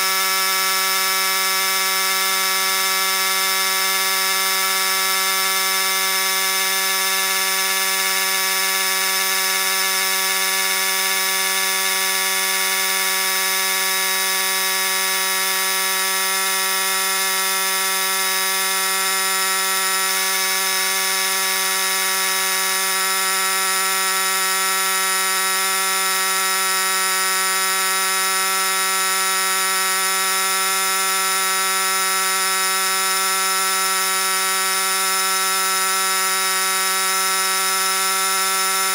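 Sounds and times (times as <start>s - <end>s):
air compressor buzzing hum: 0.0s - 38.9s.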